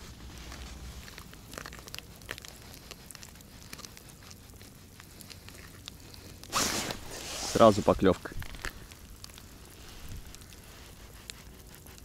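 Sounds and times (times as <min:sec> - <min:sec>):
handling crackles and clicks: 0:00.0 - 0:12.0.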